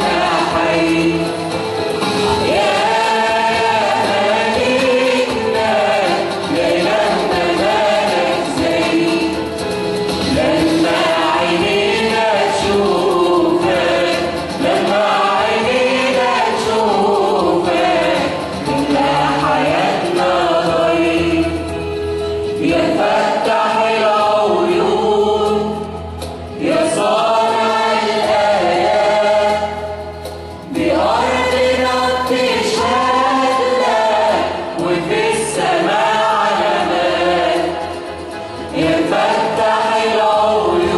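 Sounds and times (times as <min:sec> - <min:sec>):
church choir singing a hymn: 0:00.0 - 0:40.9.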